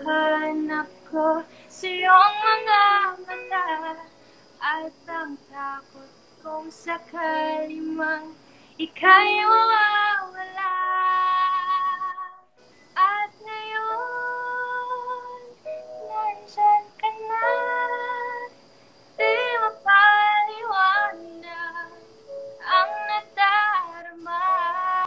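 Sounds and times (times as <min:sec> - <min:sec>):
woman singing a slow ballad: 0:00.0 - 0:12.4, 0:13.0 - 0:18.6, 0:19.2 - 0:25.0.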